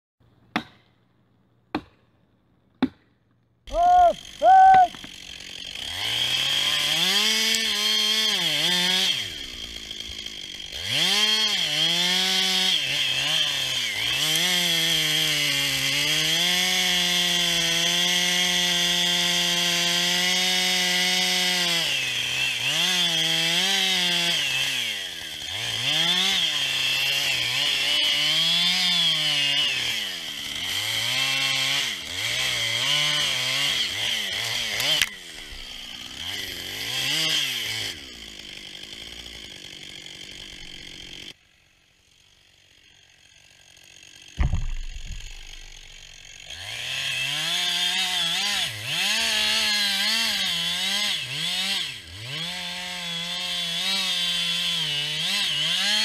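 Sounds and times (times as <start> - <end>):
chainsaw cutting wood: 3.7 - 56.0.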